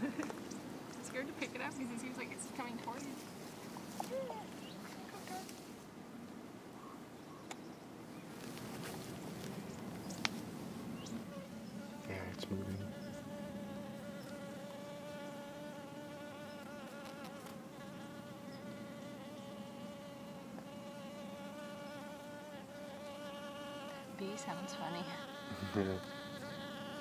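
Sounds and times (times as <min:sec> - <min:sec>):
bee buzzing: 0:00.0 - 0:05.5, 0:10.8 - 0:27.0.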